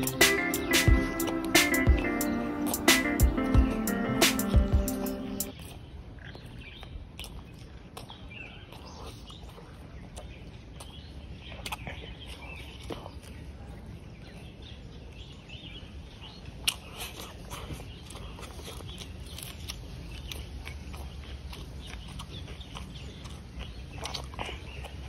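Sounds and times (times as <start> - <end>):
birds chirping: 0.0 - 25.0
low outdoor background noise: 0.0 - 25.0
person chewing and eating: 0.0 - 25.0.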